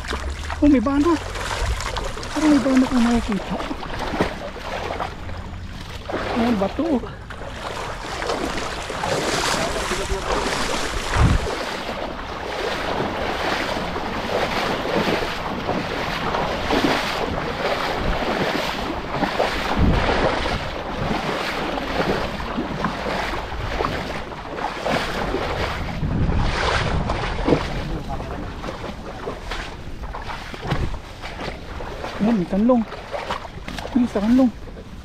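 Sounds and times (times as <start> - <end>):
low rumble of wind: 0.0 - 35.0
water rushing and splashing: 0.0 - 35.0
wind buffeting microphone: 0.0 - 35.0.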